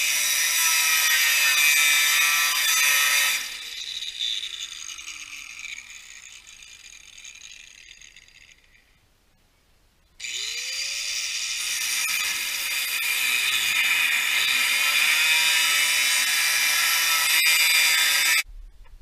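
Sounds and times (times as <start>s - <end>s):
angle grinder whining: 0.0s - 8.9s, 10.2s - 18.5s.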